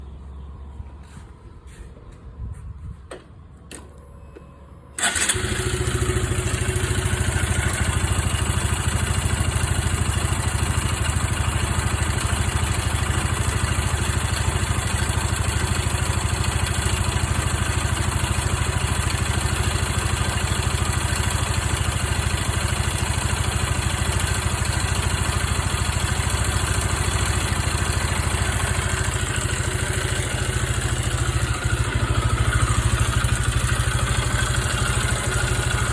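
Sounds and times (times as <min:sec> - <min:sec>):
motorcycle engine starting and idling: 0:03.1 - 0:35.9.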